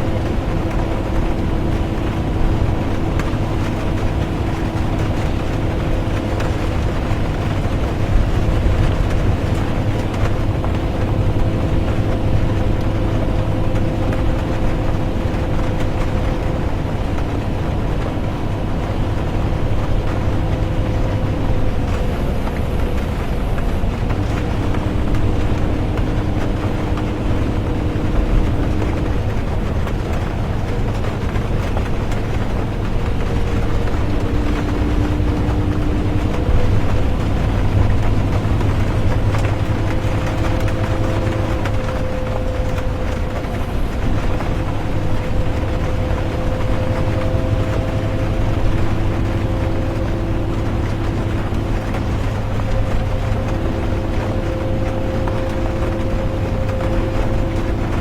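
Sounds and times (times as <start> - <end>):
bus engine and road rumble: 0.0 - 58.0
drivetrain hum: 0.0 - 58.0
rain: 0.0 - 58.0.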